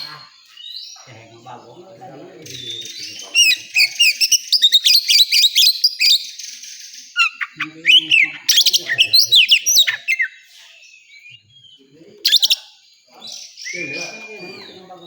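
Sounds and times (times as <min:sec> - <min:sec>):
bird singing chirps and whistles: 0:02.4 - 0:15.0.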